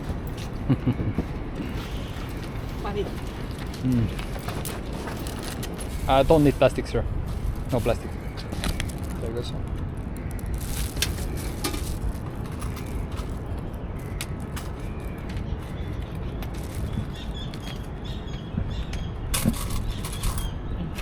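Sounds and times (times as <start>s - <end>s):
distant traffic: 0.0s - 21.0s
wind rumble: 0.0s - 21.0s.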